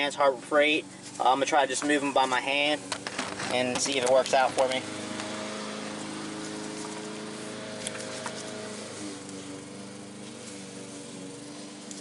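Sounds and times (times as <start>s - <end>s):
lawn mower engines droning: 0.0s - 12.0s.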